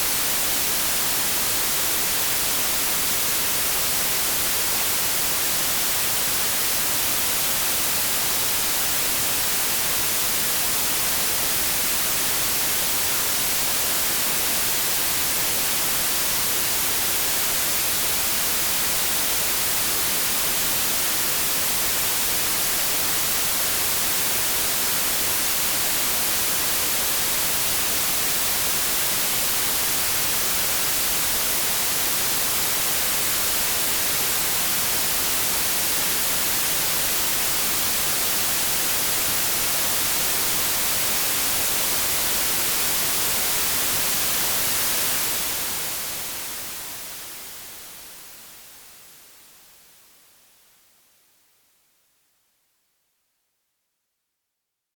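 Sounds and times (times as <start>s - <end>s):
white noise hiss: 0.0s - 53.2s.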